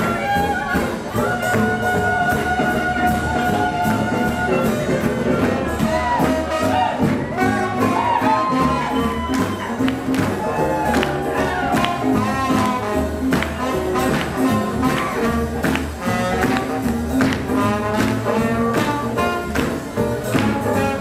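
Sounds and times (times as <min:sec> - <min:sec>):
instrumental jazz music: 0:00.0 - 0:21.0.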